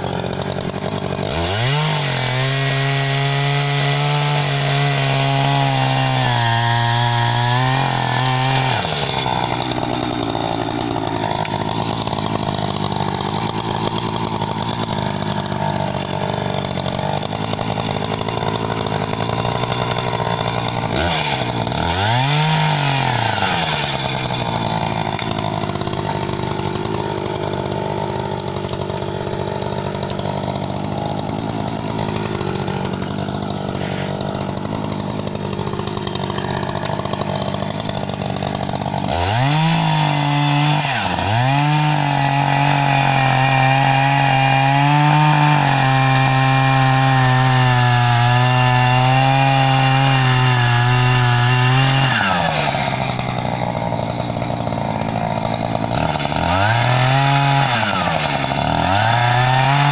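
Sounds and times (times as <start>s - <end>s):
chainsaw cutting through log: 0.0s - 59.9s.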